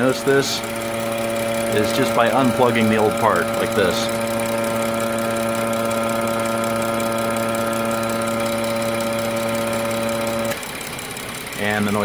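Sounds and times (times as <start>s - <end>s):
car engine idling: 0.0s - 12.0s
loud steady valve humming: 0.0s - 12.0s.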